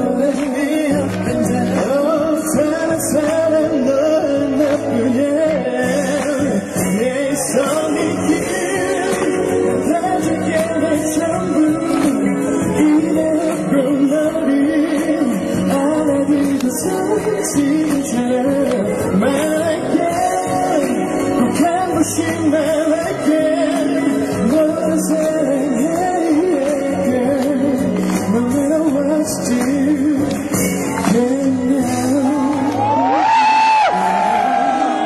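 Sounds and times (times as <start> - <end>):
band playing pop song: 0.0 - 35.0
man singing: 0.0 - 35.0.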